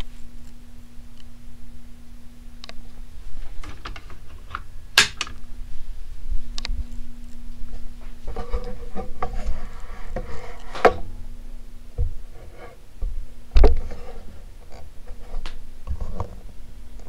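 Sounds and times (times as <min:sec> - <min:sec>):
ceiling fan motor humming: 0:00.0 - 0:17.0.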